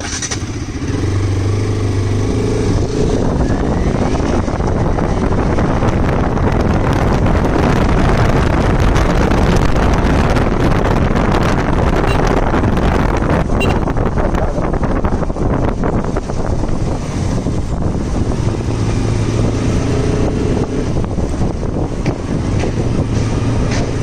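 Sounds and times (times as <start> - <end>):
motorcycle engine: 0.0 - 24.0
wind rushing over microphone: 0.0 - 24.0.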